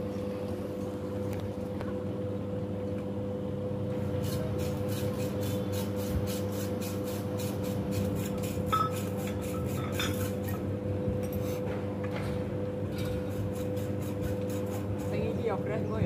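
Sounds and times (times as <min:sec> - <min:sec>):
substation electrical hum: 0:00.0 - 0:16.0.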